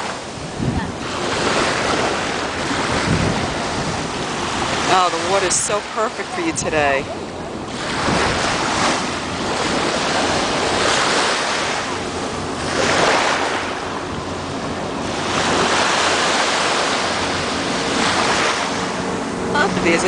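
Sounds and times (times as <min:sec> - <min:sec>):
small waves washing onto shore: 0:00.0 - 0:20.0.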